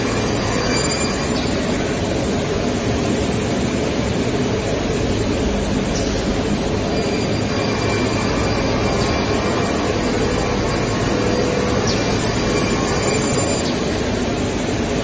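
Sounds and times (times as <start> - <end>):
milling machine running: 0.0 - 15.0.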